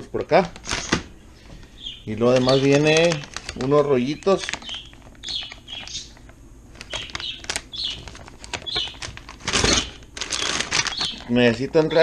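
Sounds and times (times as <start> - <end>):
packaging crinkling: 0.5 - 12.0
packaging rustling: 0.5 - 12.0.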